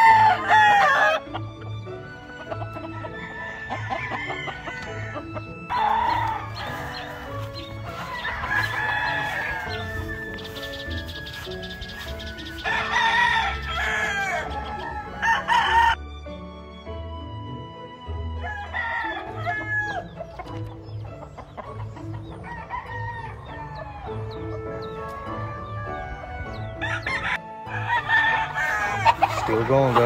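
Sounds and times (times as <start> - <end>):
roosters crowing: 0.0 - 16.0, 17.2 - 30.0
background music with beat: 0.0 - 30.0.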